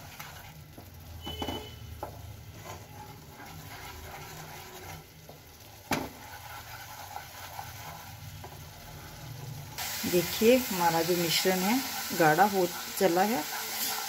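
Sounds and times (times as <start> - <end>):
spatula scraping a pan: 0.0 - 9.2, 11.1 - 14.0
thick mixture bubbling and sizzling: 0.0 - 14.0.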